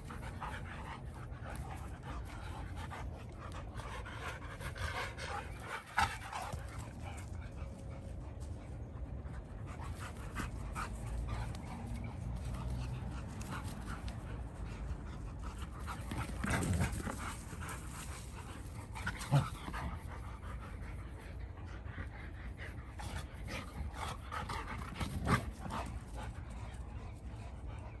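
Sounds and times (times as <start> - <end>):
dogs panting hard: 0.0 - 28.0.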